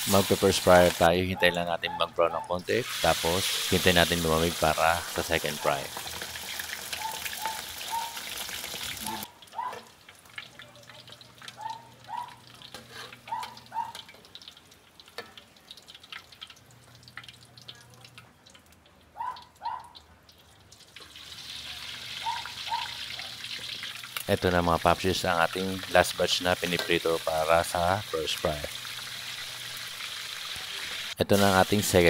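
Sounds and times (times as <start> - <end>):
deep-frying sizzle: 0.0 - 1.2, 2.6 - 32.0.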